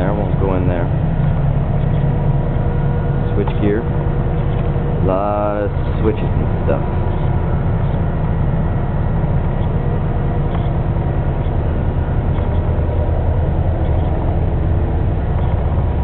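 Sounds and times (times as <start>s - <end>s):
generator engines droning: 0.0s - 16.0s
thin steady whine: 0.0s - 16.0s.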